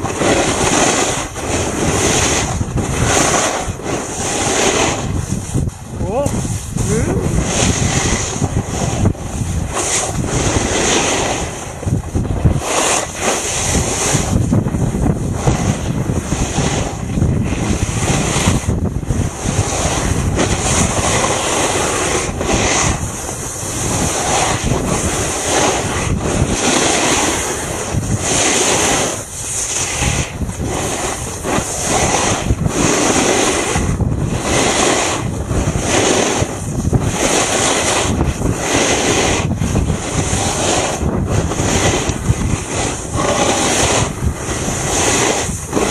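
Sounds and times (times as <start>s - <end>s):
skis scraping over snow: 0.0s - 45.9s
wind on microphone: 0.0s - 45.9s.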